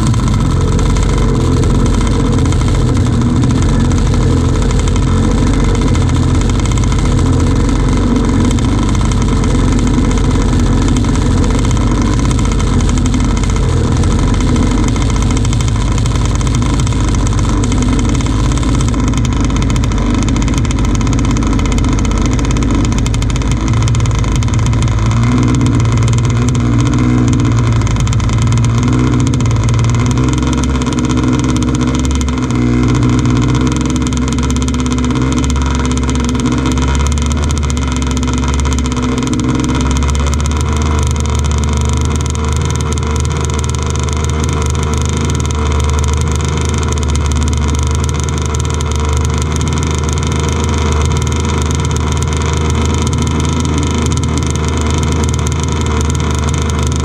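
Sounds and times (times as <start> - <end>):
two-stroke engine idling: 0.0 - 57.0.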